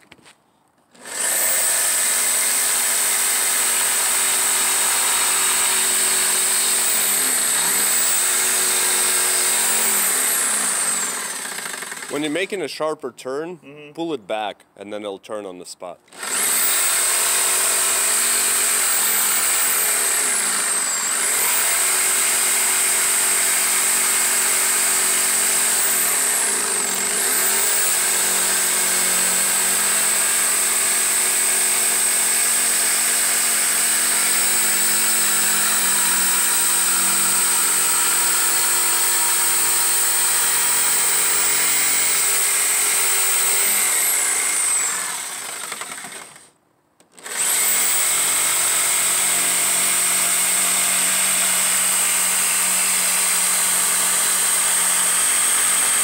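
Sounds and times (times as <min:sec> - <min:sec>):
jigsaw cutting wood: 0:00.9 - 0:12.6, 0:16.1 - 0:56.0.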